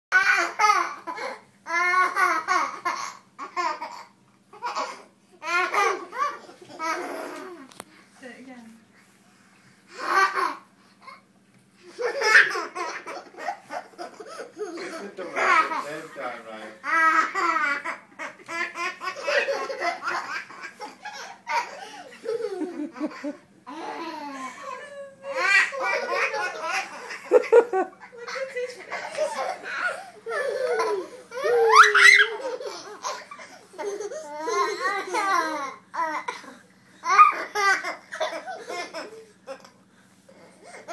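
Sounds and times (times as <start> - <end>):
toddler laughing: 0.2 - 7.7, 9.9 - 11.2, 11.9 - 16.0, 16.8 - 39.7.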